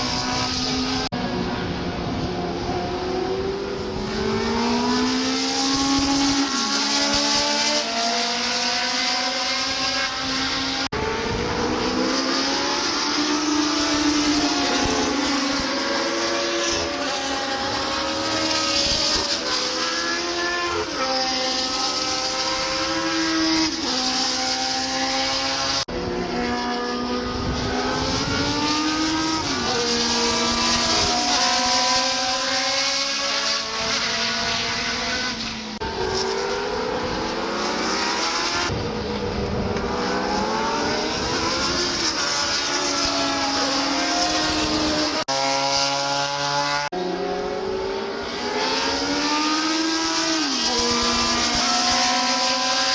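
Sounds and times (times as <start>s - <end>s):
racing car engines revving: 0.0s - 52.9s.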